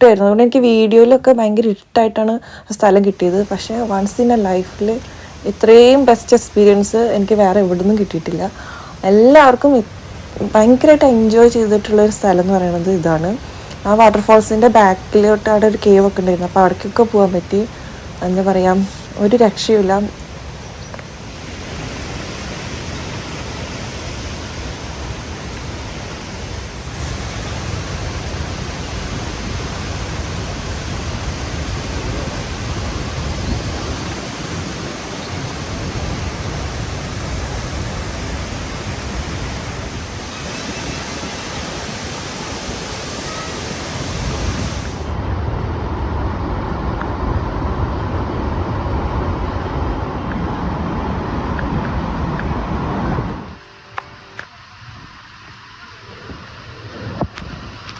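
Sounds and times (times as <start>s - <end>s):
waterfall roaring: 2.8s - 57.9s.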